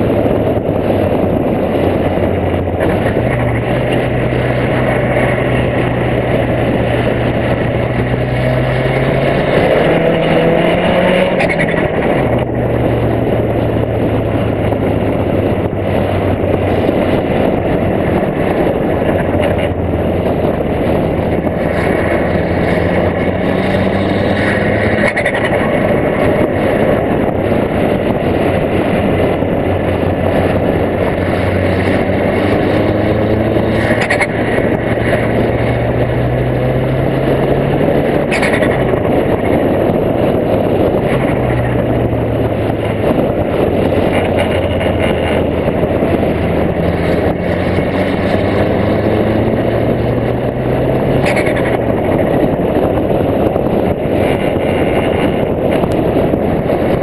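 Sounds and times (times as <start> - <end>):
car engine pulling under load: 0.0 - 57.0
wind rushing: 0.0 - 57.0.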